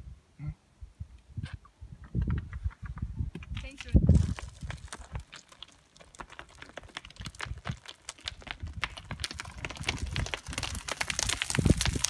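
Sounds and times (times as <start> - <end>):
stones crunching underfoot: 2.3 - 12.0.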